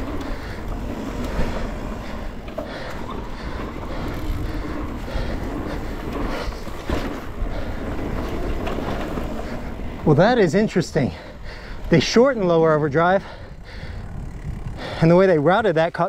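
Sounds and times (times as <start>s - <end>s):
bike rattling over bumps: 0.0s - 16.0s
bike tyres rolling on dirt: 0.0s - 16.0s
wind over microphone: 0.0s - 16.0s.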